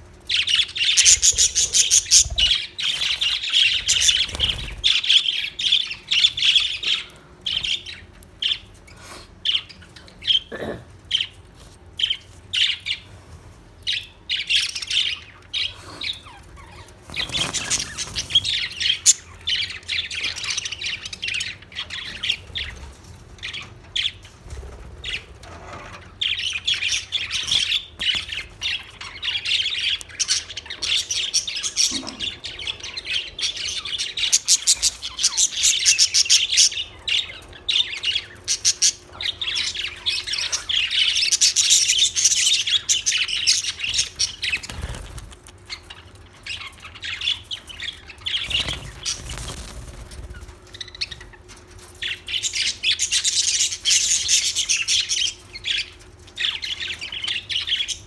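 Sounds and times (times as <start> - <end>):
budgerigars chirping and chattering: 0.3 - 10.5, 13.9 - 58.0.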